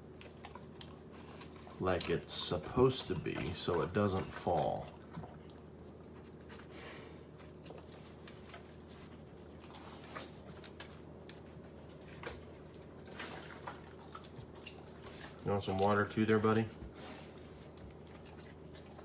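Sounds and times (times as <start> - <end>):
dog chewing lettuce: 0.0 - 19.0
steady low hum: 0.0 - 19.0.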